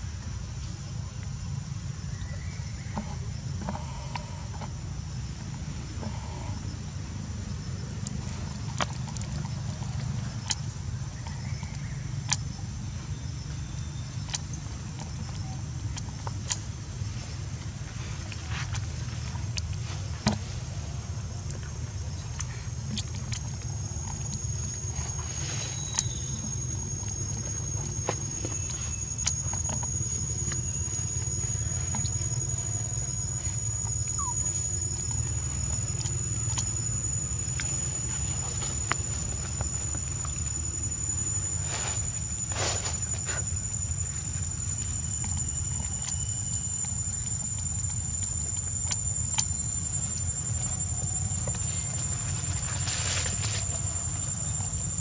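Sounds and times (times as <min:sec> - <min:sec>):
high steady whine: 0:00.0 - 0:55.0
faint clicks and rustles: 0:08.0 - 0:55.0.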